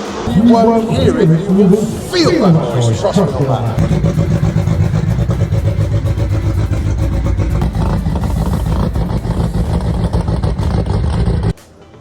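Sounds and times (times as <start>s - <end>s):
loud racing car engine: 0.0s - 11.6s.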